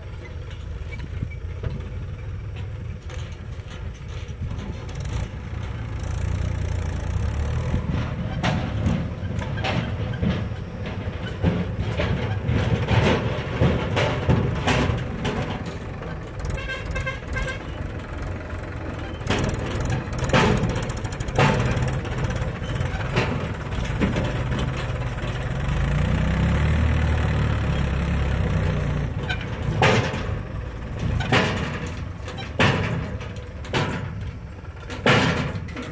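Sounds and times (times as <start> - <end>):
diesel tractor engines under load: 0.0 - 35.9
trolleys knocking and clanking: 0.0 - 35.9.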